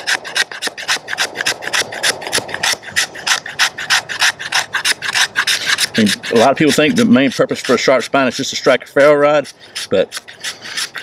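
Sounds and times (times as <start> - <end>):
knife scraping wooden stick: 0.0 - 11.0.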